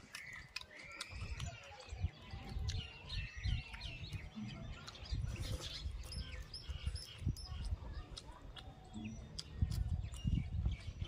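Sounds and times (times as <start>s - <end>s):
eating noises: 0.0s - 11.0s
small birds chirping: 0.0s - 11.0s.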